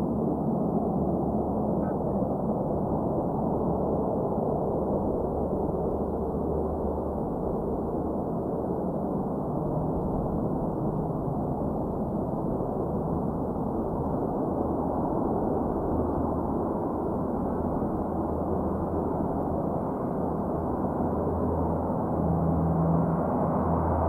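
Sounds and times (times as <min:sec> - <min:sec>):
turboprop aircraft drone: 0:00.0 - 0:24.0.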